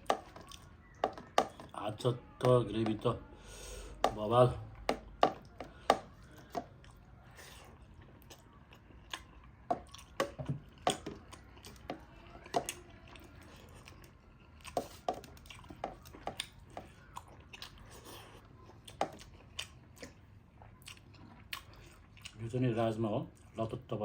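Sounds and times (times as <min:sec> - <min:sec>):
person chewing food: 0:00.0 - 0:22.5, 0:23.3 - 0:23.6.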